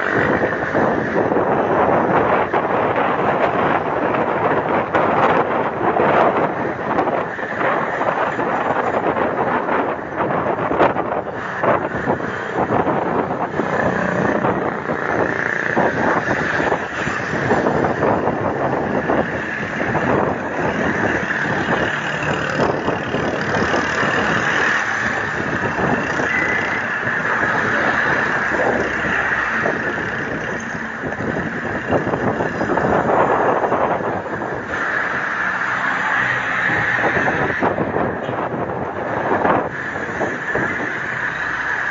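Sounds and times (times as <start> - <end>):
road traffic: 0.0 - 41.9
wind buffeting microphone: 0.0 - 41.9.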